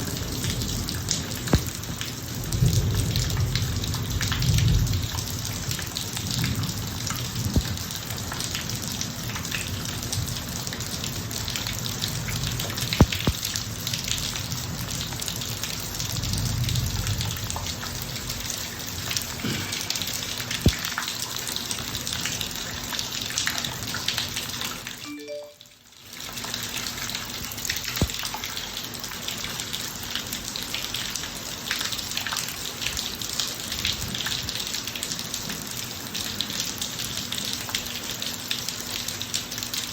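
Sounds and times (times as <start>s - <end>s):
rain falling on a driveway: 0.0s - 39.9s.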